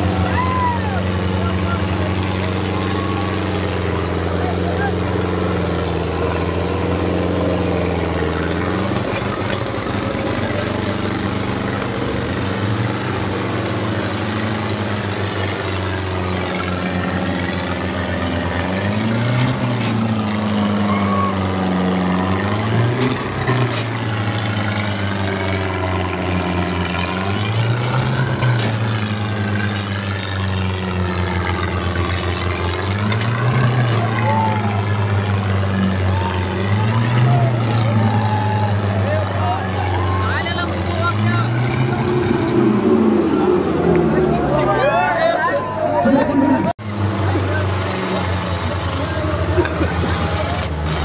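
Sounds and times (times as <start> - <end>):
tractor engine straining: 0.0 - 51.0.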